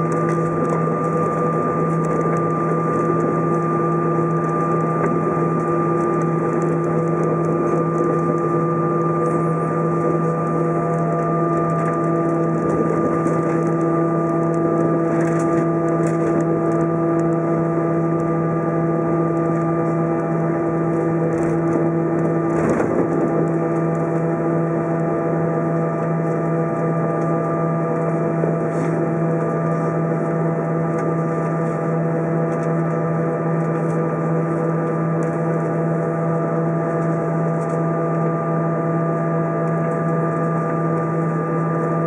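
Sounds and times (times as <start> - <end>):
jet engine drone: 0.0 - 42.0.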